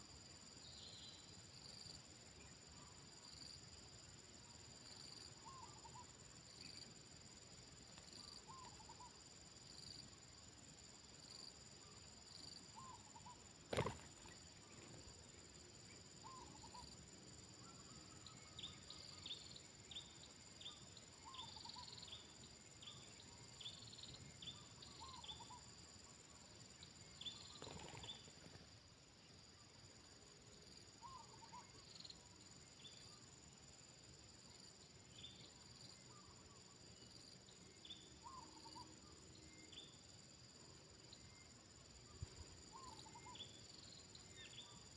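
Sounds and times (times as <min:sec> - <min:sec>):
high insect chirps: 0:00.0 - 0:44.9
insects buzzing: 0:00.0 - 0:44.9
low insect call: 0:00.0 - 0:44.9.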